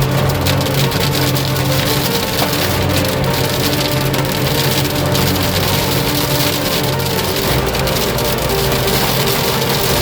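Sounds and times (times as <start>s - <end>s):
heavy rain on a truck cab: 0.0s - 10.0s
music playing: 0.0s - 10.0s.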